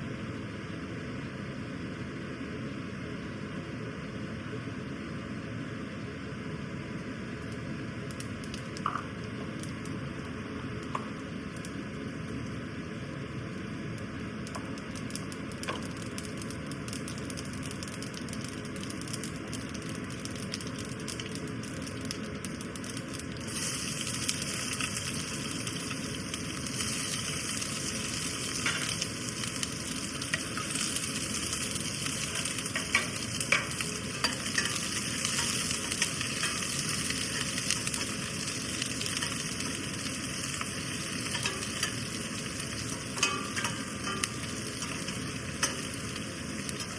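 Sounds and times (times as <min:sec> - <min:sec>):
food frying in hot oil: 0:07.0 - 0:46.9.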